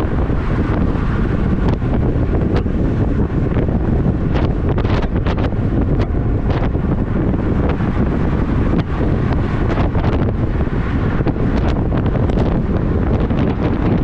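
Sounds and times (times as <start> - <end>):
deep road rumble: 0.0 - 14.0
wind buffeting microphone: 0.0 - 14.0.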